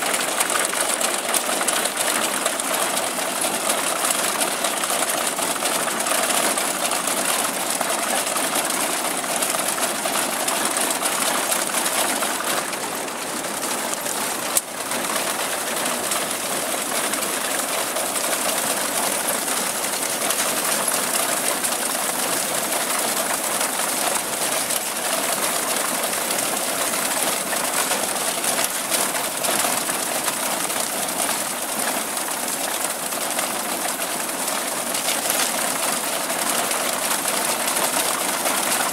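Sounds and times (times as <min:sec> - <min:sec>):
grain binder mechanical clatter: 0:00.0 - 0:38.9.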